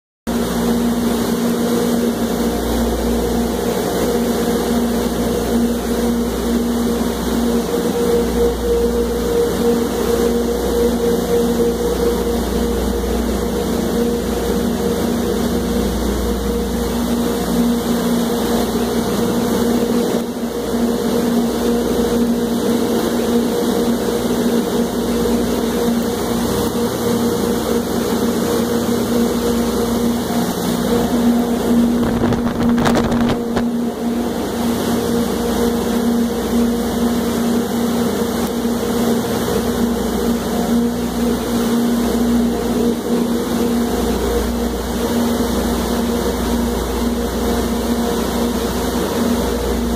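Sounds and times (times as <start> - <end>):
mechanical hum with drone: 0.3 - 49.9.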